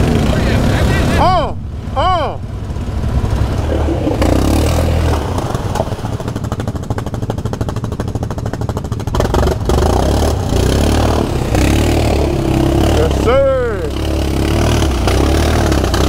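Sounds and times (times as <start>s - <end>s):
quad bike engine revving: 0.0s - 16.0s
wheels spinning in mud: 2.6s - 16.0s.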